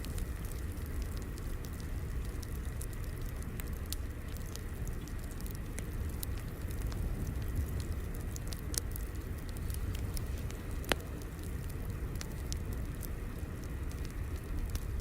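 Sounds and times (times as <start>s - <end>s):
fire crackling: 0.0s - 15.0s
sharp pops of fire: 0.0s - 15.0s.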